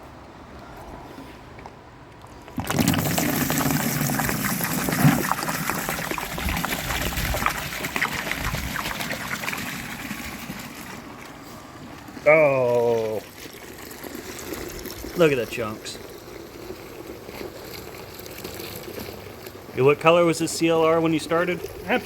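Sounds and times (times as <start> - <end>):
liquid pouring from metal tank: 2.4 - 11.4, 12.4 - 22.0.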